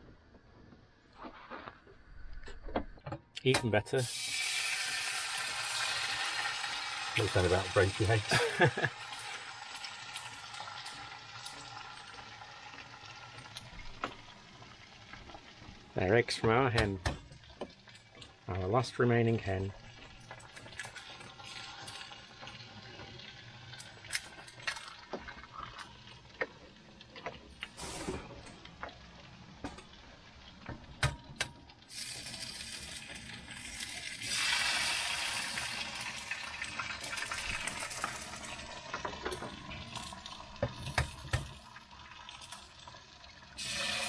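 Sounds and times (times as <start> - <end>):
eggs sizzling in pan: 4.0 - 44.0.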